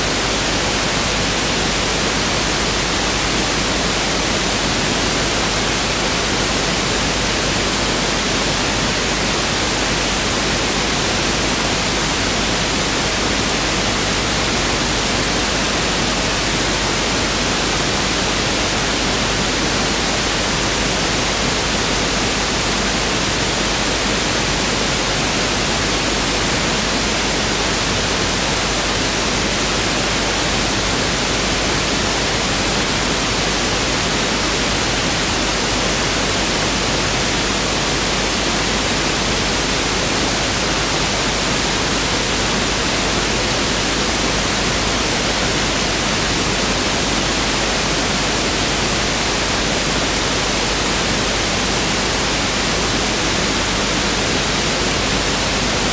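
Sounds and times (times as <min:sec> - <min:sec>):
pink noise hiss: 0:00.0 - 0:55.9.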